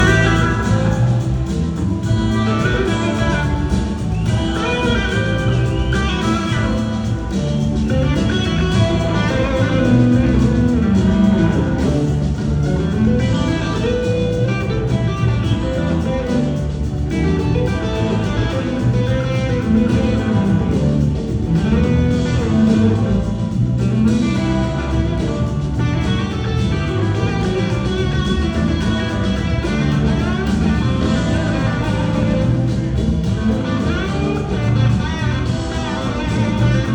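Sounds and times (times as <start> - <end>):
electric guitar lead lines: 0.0 - 36.9
live blues-rock band: 0.0 - 36.9.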